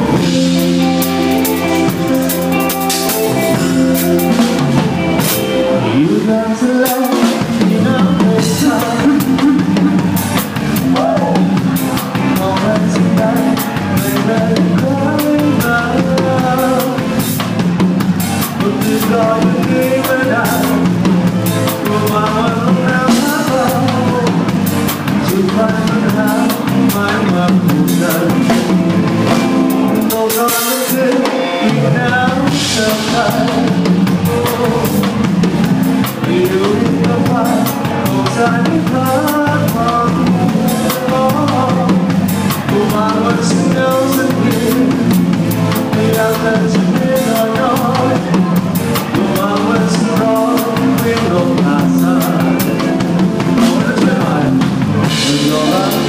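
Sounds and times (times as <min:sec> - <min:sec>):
drum kit beat: 0:00.0 - 0:56.0
live band playing: 0:00.0 - 0:56.0.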